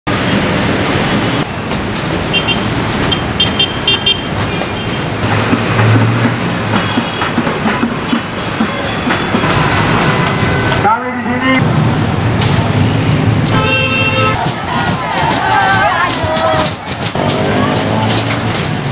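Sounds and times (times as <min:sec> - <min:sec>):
vehicle engines running: 0:00.1 - 0:18.9.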